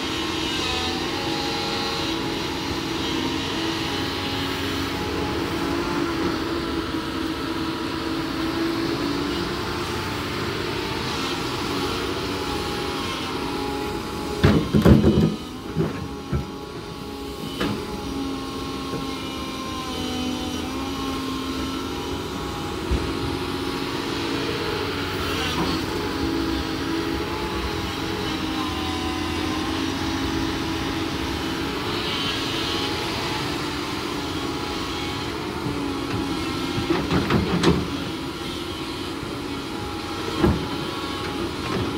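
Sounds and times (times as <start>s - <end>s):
excavator diesel engine with whine: 0.0s - 41.9s.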